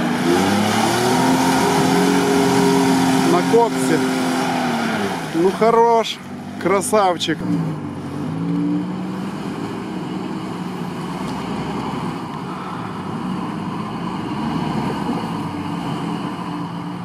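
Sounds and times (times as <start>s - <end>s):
suv engine running: 0.0s - 17.0s.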